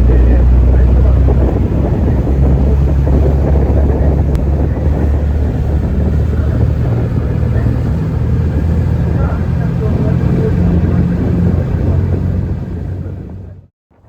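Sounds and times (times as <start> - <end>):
boat engine droning: 0.0 - 13.7
wind and water noise: 0.0 - 14.0.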